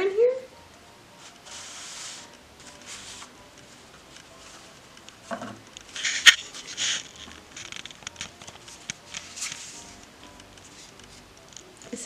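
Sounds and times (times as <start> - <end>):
paper rustling: 1.2 - 11.2.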